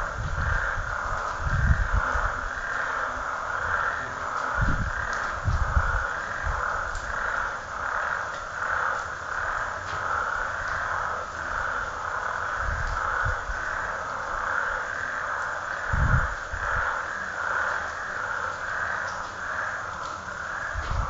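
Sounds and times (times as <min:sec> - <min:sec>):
frogs chorus: 0:00.0 - 0:21.0.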